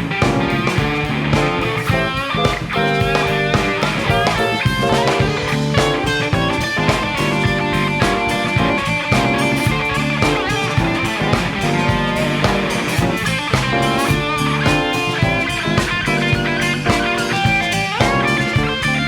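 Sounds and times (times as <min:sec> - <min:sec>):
electric guitar: 0:00.0 - 0:19.0
funk rock band playing: 0:00.0 - 0:19.0.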